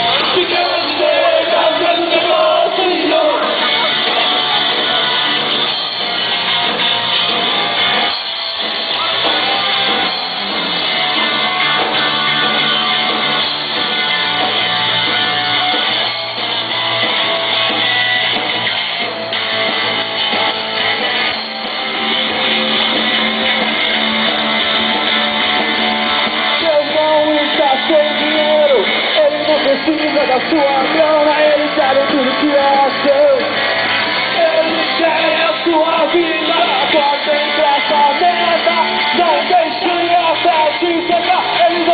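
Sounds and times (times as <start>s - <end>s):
lead guitar: 0.0s - 41.9s
rock band playing live: 0.0s - 41.9s.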